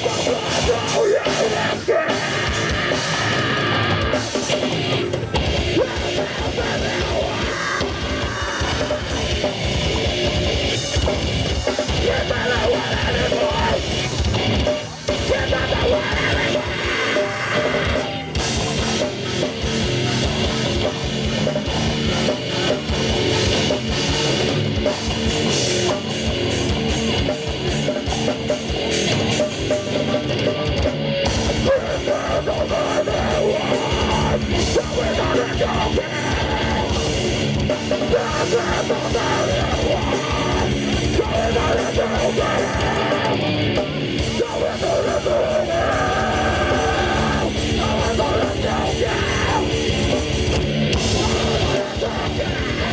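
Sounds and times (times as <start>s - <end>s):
distorted electric guitars: 0.0s - 52.9s
fast dense drumming: 0.0s - 52.9s.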